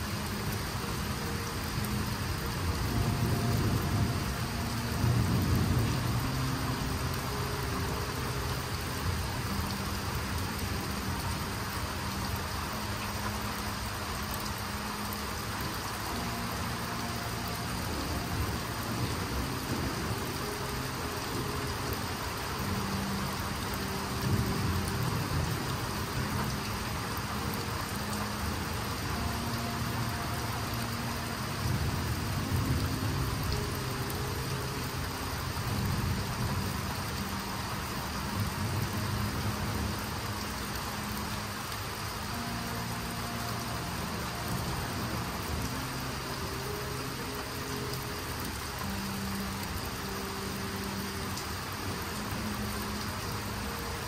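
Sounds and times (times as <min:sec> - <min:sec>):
heavy rain on trees: 0:00.0 - 0:54.0.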